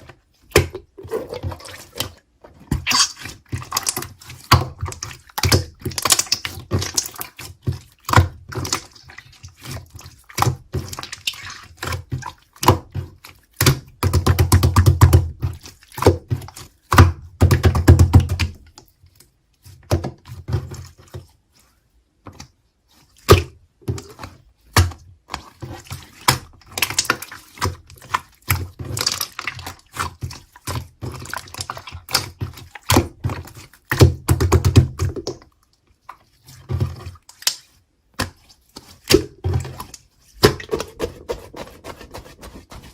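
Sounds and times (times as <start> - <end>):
slime squelching by hand: 0.0 - 42.9.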